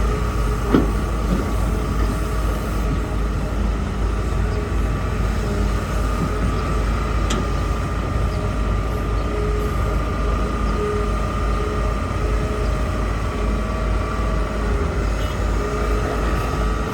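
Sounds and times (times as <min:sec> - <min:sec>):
constant high whine: 0:00.0 - 0:16.9
excavator diesel engine rumbling: 0:00.0 - 0:16.9.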